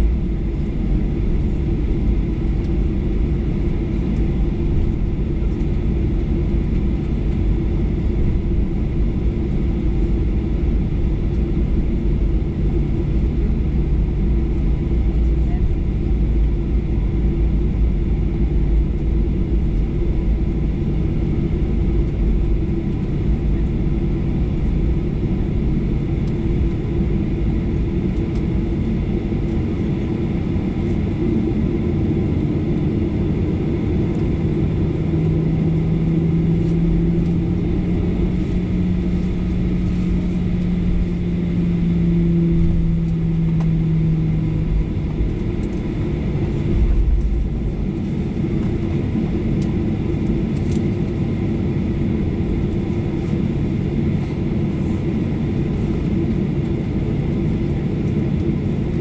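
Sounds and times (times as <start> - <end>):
jet engines low rumble: 0.0 - 59.0.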